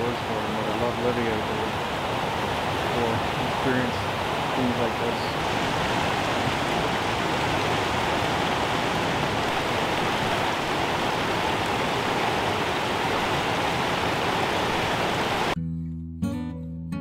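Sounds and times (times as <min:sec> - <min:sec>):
water pouring over a dam: 0:00.0 - 0:15.6.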